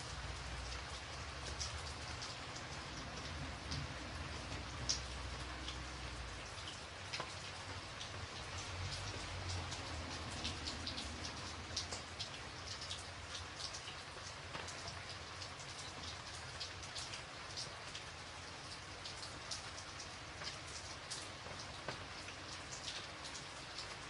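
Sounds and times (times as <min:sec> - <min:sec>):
raindrops ticking on a surface: 0:00.0 - 0:24.0
steady rain hiss: 0:00.0 - 0:24.0.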